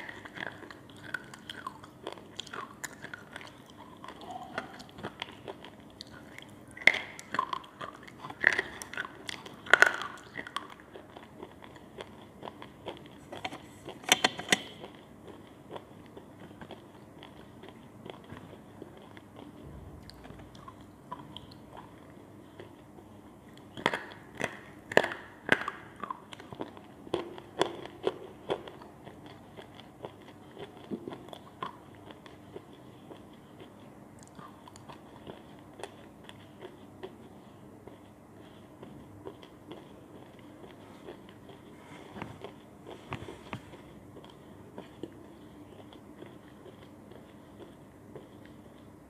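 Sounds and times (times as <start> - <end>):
chewing: 0.0 - 49.0.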